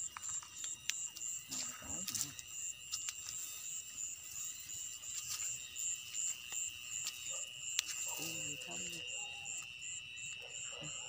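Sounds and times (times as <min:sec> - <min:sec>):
footsteps in grass: 0:00.0 - 0:09.2
insect trill pulsing: 0:00.0 - 0:11.0
night insects droning: 0:00.0 - 0:11.0.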